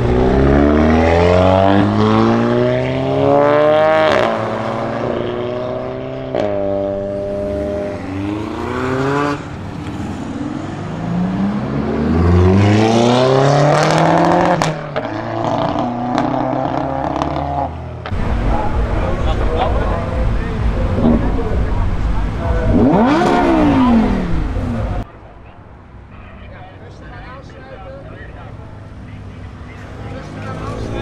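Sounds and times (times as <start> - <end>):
car engine accelerating hard: 0.0 - 25.0, 28.9 - 31.0
second car engine accelerating: 0.0 - 25.0.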